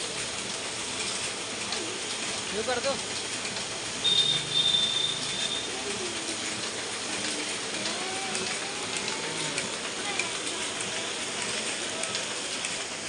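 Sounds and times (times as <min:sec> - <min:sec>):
printing press clatter and hiss: 0:00.0 - 0:13.0.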